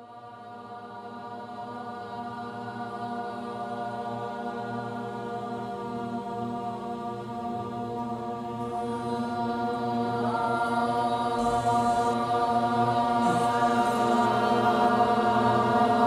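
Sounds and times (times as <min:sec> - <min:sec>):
voices chanting a droning note: 0:00.0 - 0:16.0.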